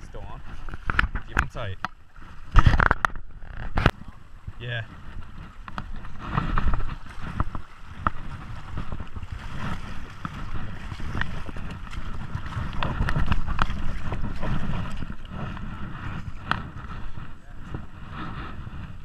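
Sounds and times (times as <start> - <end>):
creek water splashing: 0.0 - 19.0
wind buffeting microphone: 0.0 - 19.0.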